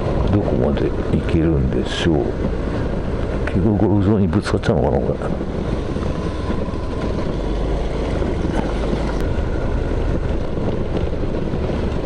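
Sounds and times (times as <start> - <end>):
road noise: 0.0 - 12.0
rough wind noise: 0.0 - 12.0
scooter engine cruising: 0.0 - 12.0.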